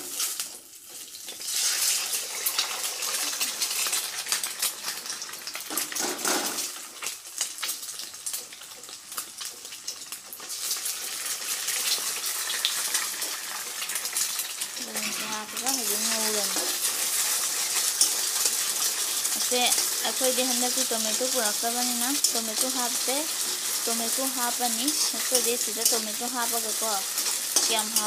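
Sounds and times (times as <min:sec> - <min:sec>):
egg sizzling in hot oil: 0:00.0 - 0:28.0.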